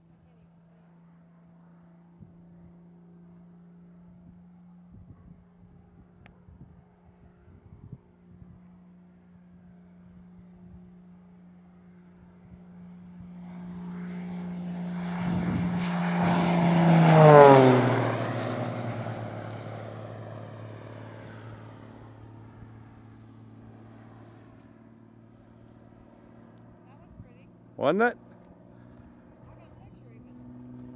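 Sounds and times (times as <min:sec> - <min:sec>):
propeller plane passing by: 0:00.0 - 0:30.9.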